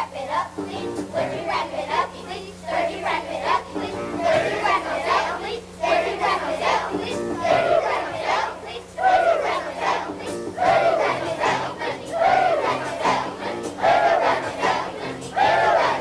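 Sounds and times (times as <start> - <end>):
steady low hum: 0.0 - 16.0
children singing loudly: 1.1 - 16.0.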